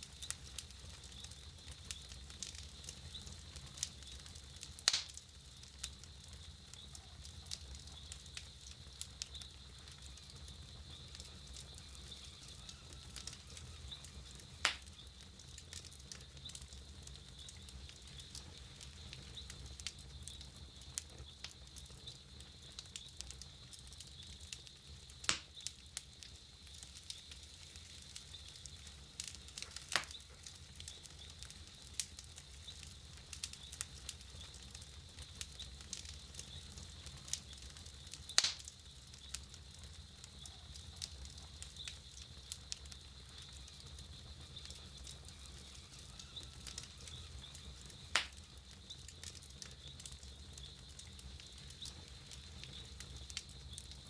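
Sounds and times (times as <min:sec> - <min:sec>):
campfire crackling: 0:00.0 - 0:54.0
loud fire snaps: 0:00.0 - 0:54.0.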